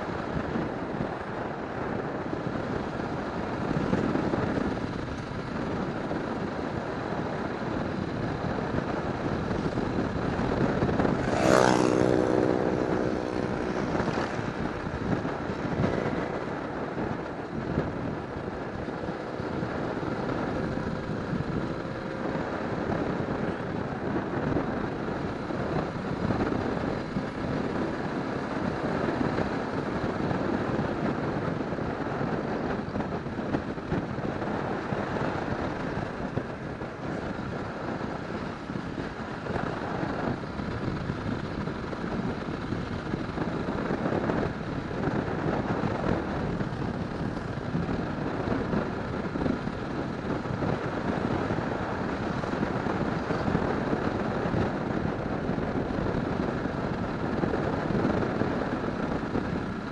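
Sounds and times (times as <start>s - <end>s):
motorcycle running: 0.0s - 59.9s
wind rush: 0.0s - 59.9s.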